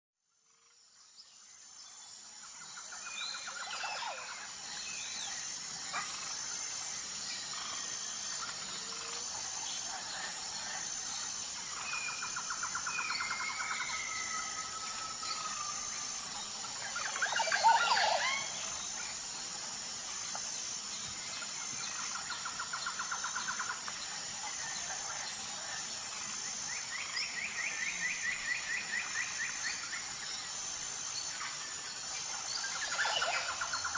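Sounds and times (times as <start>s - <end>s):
high pulsing insect chirring: 0.3s - 33.9s
birds calling and trilling: 1.3s - 33.9s.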